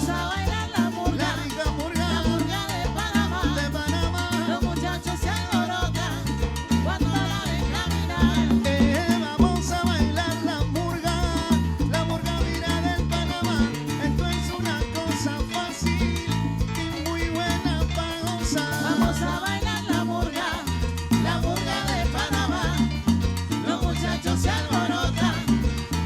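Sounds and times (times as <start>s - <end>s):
bass line: 0.0s - 26.0s
live salsa band playing: 0.0s - 26.0s
percussion: 0.0s - 26.0s.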